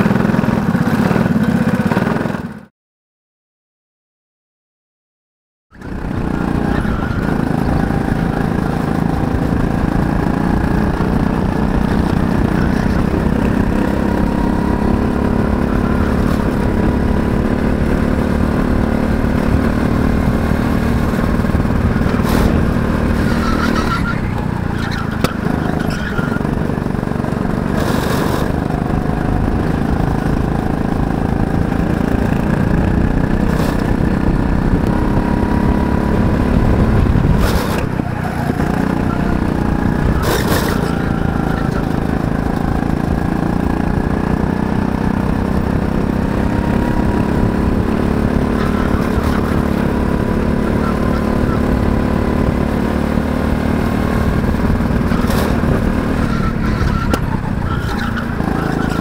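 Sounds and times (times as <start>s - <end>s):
go-kart engine revving: 0.0s - 2.7s, 5.7s - 59.0s.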